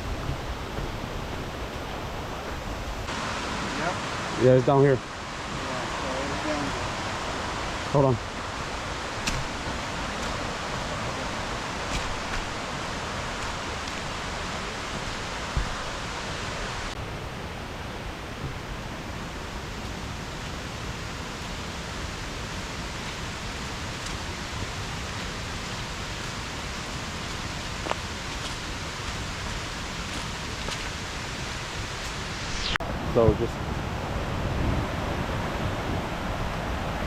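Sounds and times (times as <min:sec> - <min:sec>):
creek water rushing: 0:00.0 - 0:37.0.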